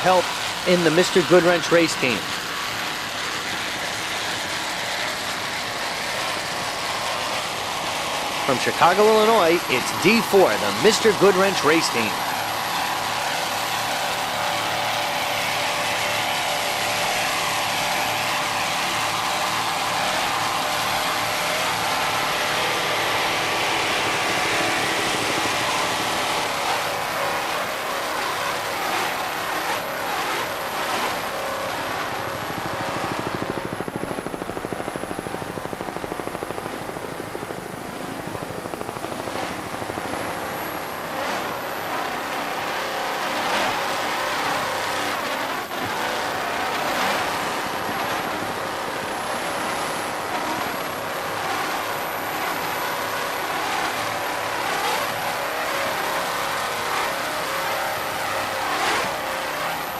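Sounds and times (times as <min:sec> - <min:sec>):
race boat engines: 0:00.0 - 0:59.9
wind: 0:00.0 - 0:59.9.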